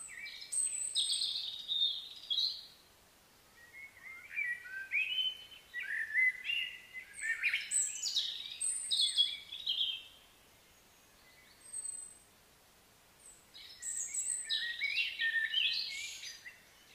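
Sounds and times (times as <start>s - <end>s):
bird singing: 0.0s - 2.8s, 3.5s - 12.2s, 13.2s - 16.9s.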